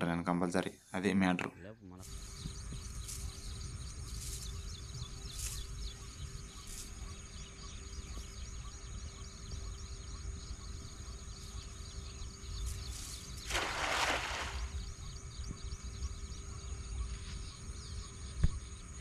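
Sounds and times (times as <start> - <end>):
small birds chirping: 0.2 - 19.0
wind rumbling on microphone: 2.1 - 7.1, 8.1 - 18.9.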